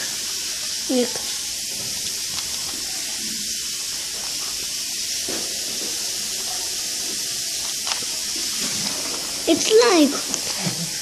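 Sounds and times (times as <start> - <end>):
high-pitched microphone hiss: 0.0 - 11.0.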